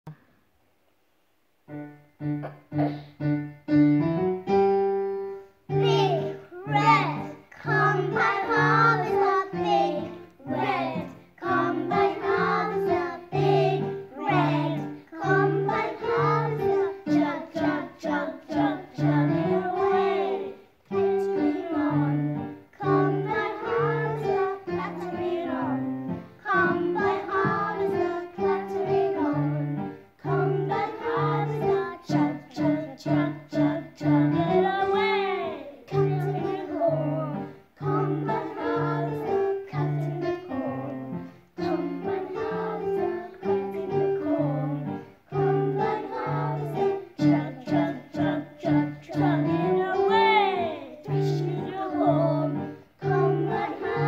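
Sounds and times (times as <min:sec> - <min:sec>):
children singing in unison: 0:05.7 - 0:54.0.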